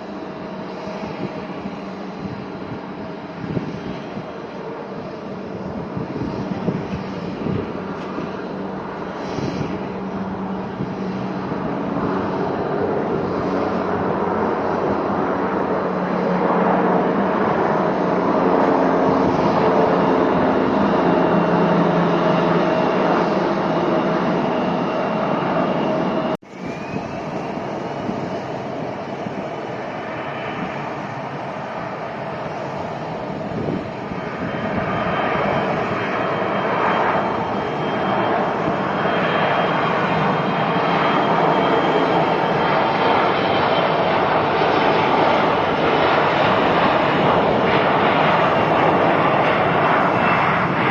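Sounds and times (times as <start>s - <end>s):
airliner engines running: 0.0s - 50.9s
steady high whine: 0.0s - 50.9s.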